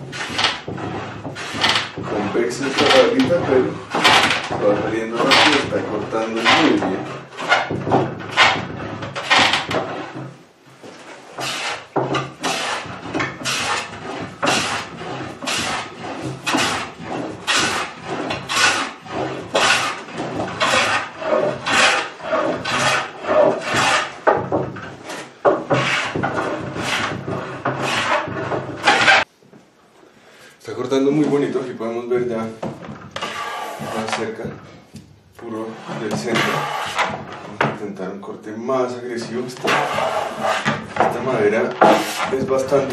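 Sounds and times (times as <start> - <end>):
hand plane shaving wood: 0.0 - 10.3, 10.9 - 29.3, 33.2 - 34.4, 35.4 - 37.6, 39.2 - 42.9.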